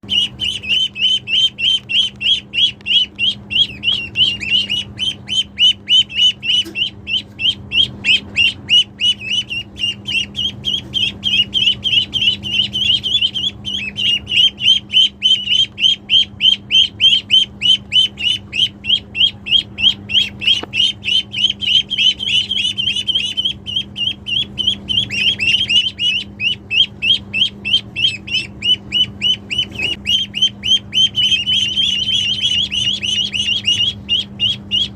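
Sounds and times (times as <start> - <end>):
ducklings peeping: 0.0 - 34.9.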